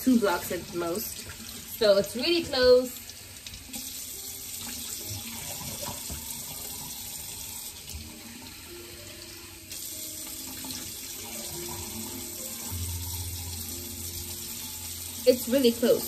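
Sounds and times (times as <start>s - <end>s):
water running from sink tap: 0.0s - 16.0s.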